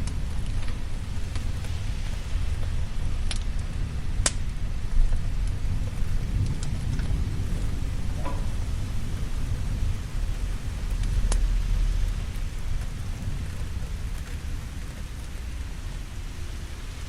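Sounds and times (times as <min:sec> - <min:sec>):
sharp crackles: 0:00.0 - 0:17.0
steady rain: 0:00.0 - 0:17.0
thunder rumbling: 0:00.0 - 0:17.0.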